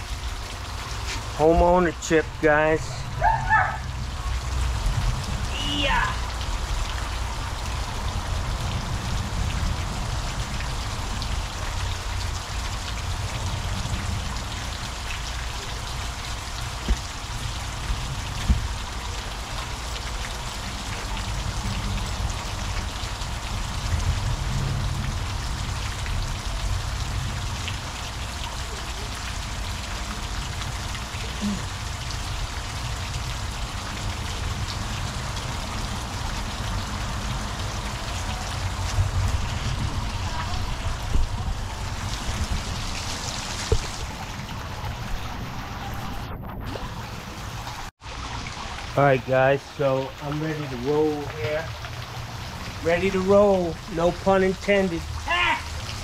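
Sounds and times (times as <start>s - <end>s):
hot tub water splashing: 0.0s - 56.0s.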